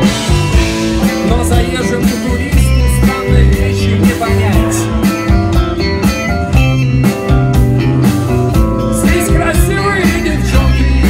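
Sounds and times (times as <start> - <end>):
guitar-led pop-rock band music: 0.0 - 11.0.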